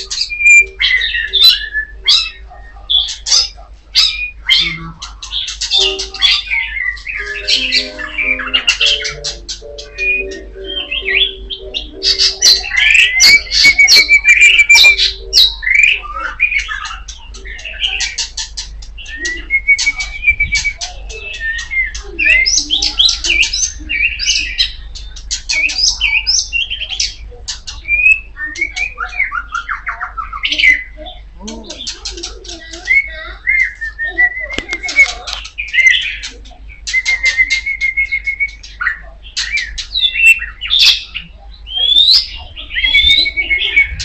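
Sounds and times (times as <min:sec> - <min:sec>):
bird singing chirps and trills: 0:00.0 - 0:44.0.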